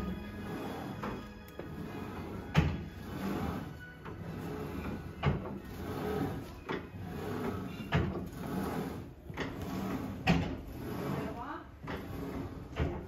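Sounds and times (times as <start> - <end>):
weight stack clunking down: 0.0 - 13.0.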